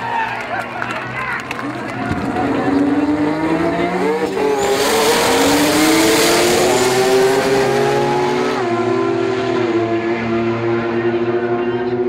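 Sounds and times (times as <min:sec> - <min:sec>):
race car engine accelerating: 0:01.4 - 0:12.0.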